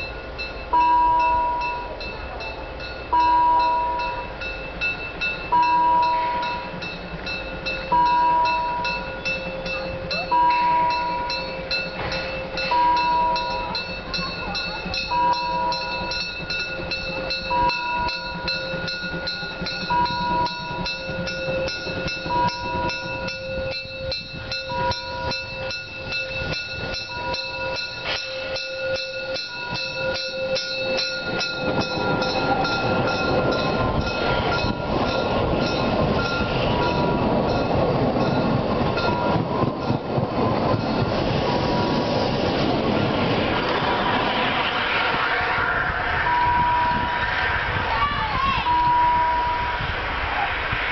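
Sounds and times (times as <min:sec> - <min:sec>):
crossing bell ringing: 0:00.0 - 0:42.9, 0:45.4 - 0:47.4, 0:48.4 - 0:49.9
steam locomotive exhaust: 0:00.0 - 0:50.9
train wheels rolling: 0:00.0 - 0:50.9.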